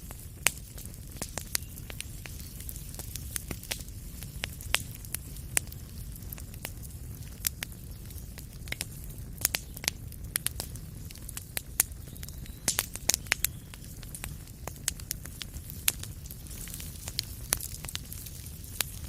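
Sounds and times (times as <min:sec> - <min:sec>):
low rumble of flame: 0:00.0 - 0:19.0
wood fire crackling: 0:00.0 - 0:19.0.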